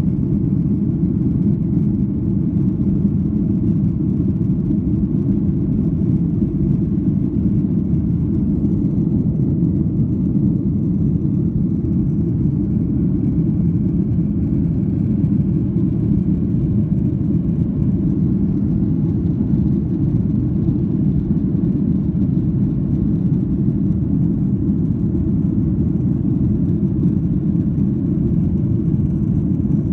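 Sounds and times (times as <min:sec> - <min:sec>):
jet engines rumbling in cabin: 0:00.0 - 0:29.9.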